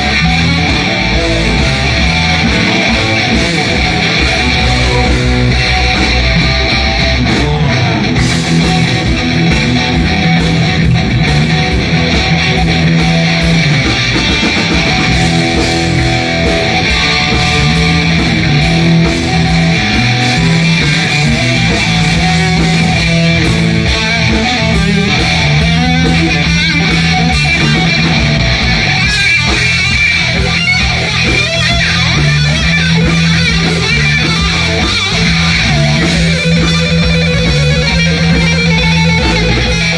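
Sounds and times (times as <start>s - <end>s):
bass line: 0.0s - 39.9s
blues-rock band playing: 0.0s - 39.9s
electric guitar: 0.0s - 39.9s.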